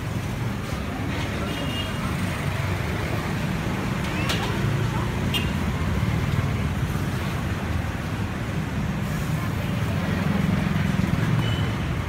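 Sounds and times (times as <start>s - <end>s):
roadside traffic: 0.0s - 12.0s.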